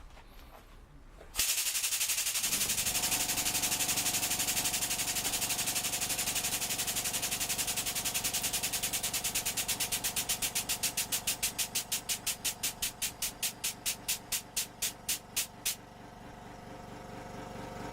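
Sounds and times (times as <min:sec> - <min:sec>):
pump motor pulsing hiss: 0:01.4 - 0:15.8.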